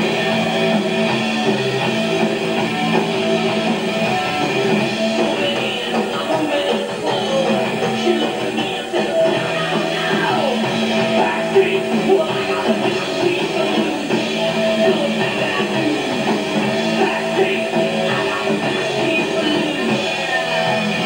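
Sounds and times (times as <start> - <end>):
electric guitar: 0.0 - 21.0
live rock band playing: 0.0 - 21.0.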